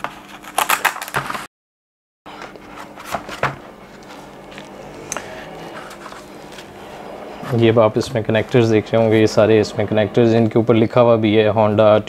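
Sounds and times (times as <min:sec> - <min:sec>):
low room hum: 0:02.3 - 0:12.0.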